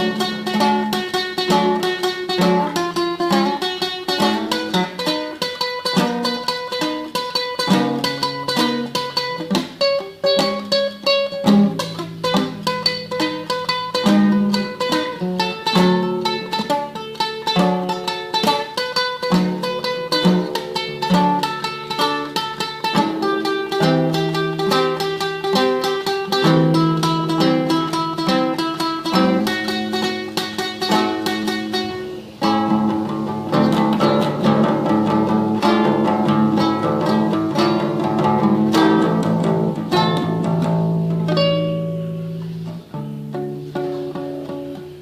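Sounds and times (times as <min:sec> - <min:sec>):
classical guitar tremolo: 0:00.0 - 0:45.0.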